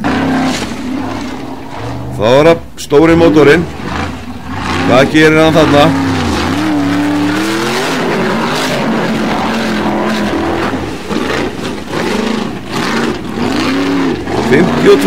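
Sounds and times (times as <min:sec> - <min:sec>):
buggy engine at full throttle: 0:00.0 - 0:15.0.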